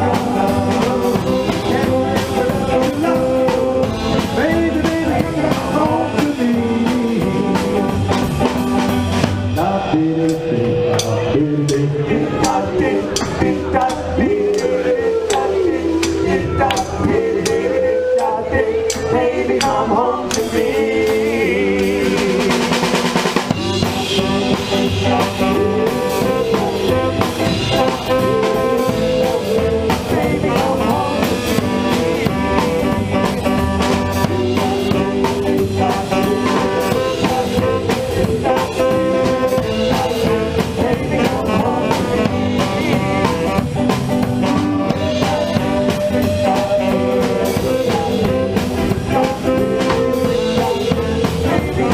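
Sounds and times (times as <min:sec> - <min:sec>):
drum kit beat: 0:00.0 - 0:51.9
live rock band playing: 0:00.0 - 0:51.9.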